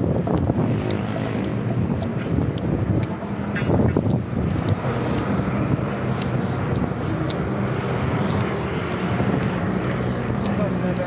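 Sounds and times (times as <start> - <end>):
vehicle engines humming: 0.0 - 11.0.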